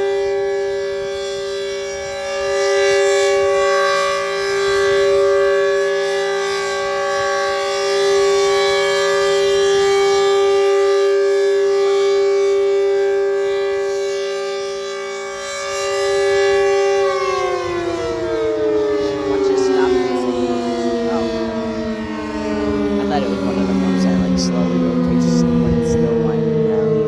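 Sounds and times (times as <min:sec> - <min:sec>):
outdoor warning siren: 0:00.0 - 0:27.0.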